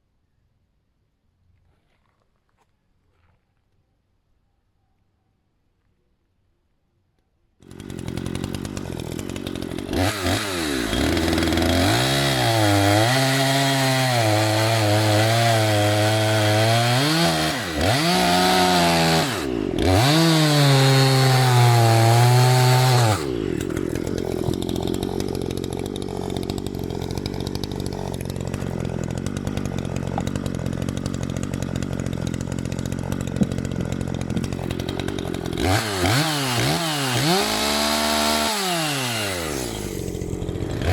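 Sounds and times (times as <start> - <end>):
chainsaw cutting wood: 7.6 - 40.9.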